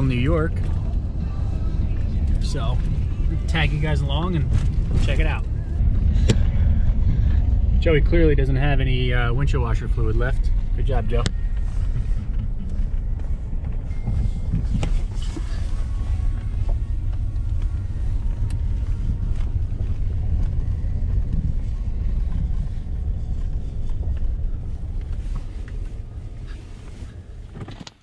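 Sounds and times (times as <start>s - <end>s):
vehicle driving on gravel road: 0.0s - 28.0s.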